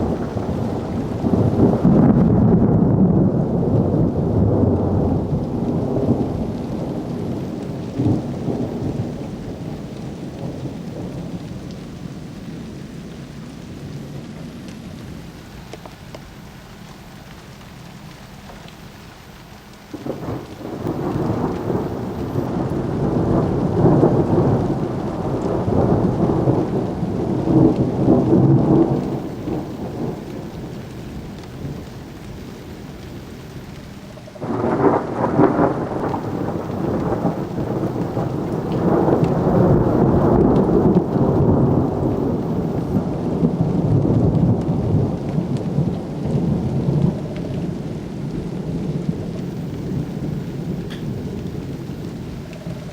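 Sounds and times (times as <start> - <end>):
thunder rolling: 0.0 - 15.4, 19.6 - 52.9
steady rain: 0.0 - 52.9.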